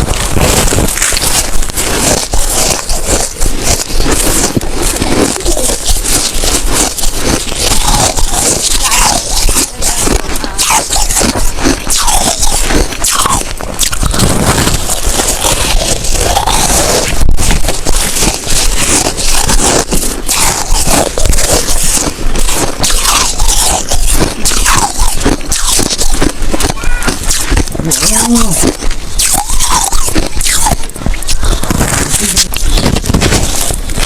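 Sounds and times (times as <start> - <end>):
chewing crunchy ice: 0.0 - 34.0.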